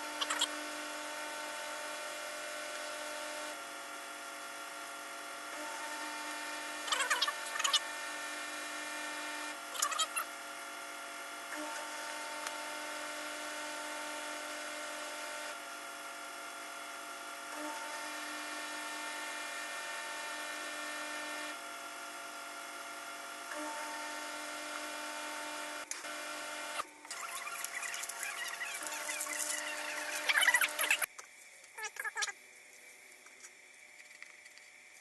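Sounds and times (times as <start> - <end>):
small electric motor humming: 0.0 - 35.0.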